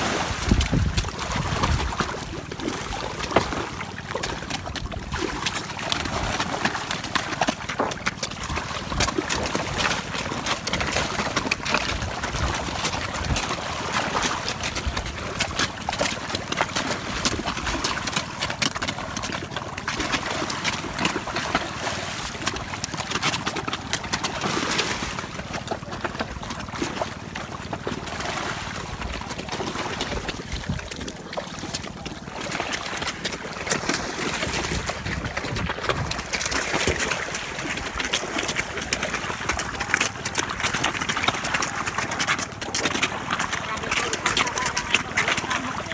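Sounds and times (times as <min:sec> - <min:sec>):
fish splashing at water surface: 0:00.0 - 0:45.9.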